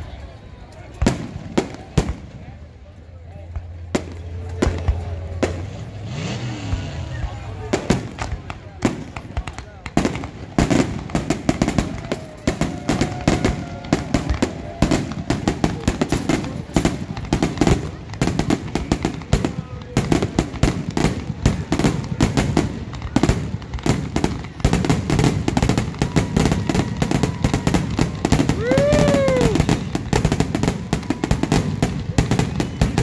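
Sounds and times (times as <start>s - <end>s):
fireworks bursting: 0.8s - 2.8s, 3.5s - 33.0s.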